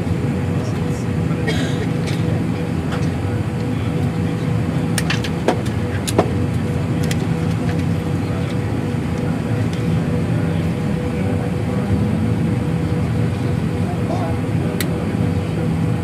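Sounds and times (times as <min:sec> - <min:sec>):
aircraft cabin low hum: 0:00.0 - 0:16.0.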